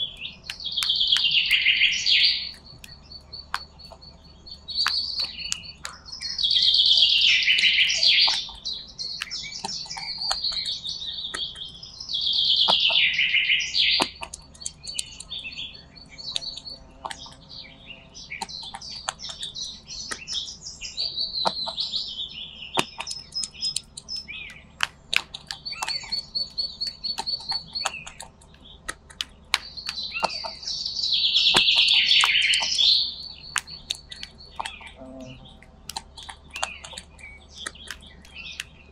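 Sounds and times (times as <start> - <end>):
sharp clicks: 0.0 - 13.2, 13.8 - 22.0, 22.7 - 38.9
high chirping and trilling: 0.0 - 38.9.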